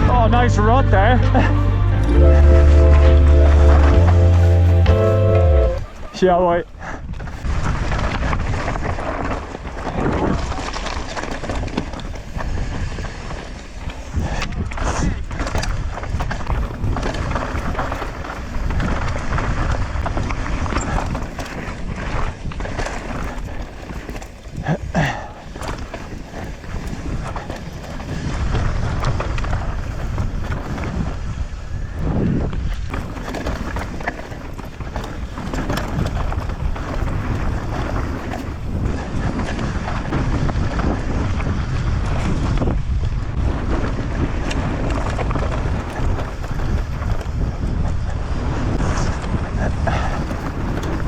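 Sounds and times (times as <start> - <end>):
wind buffeting microphone: 0.0 - 51.0
bike tyres rolling over rock: 2.2 - 51.0
bike rattling and clattering: 3.3 - 51.0.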